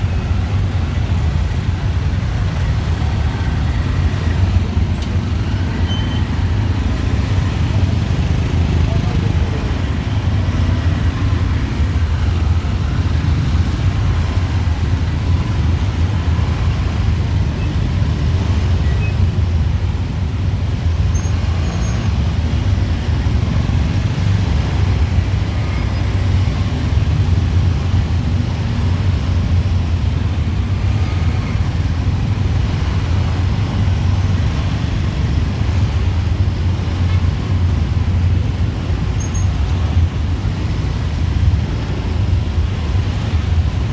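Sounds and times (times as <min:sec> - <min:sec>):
street traffic rumble: 0:00.0 - 0:43.9.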